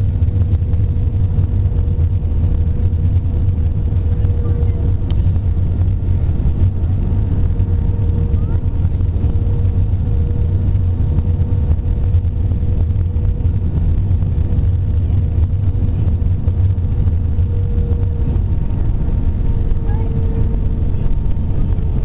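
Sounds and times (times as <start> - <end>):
airliner cabin engine and airflow noise: 0.0 - 22.0
faint humming tone: 0.0 - 22.0.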